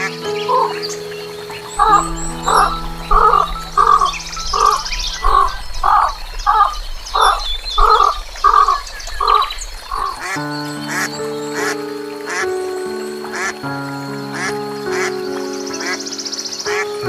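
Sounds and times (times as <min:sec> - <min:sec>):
small birds chirping: 0:00.0 - 0:17.0
soft background music: 0:00.0 - 0:17.0.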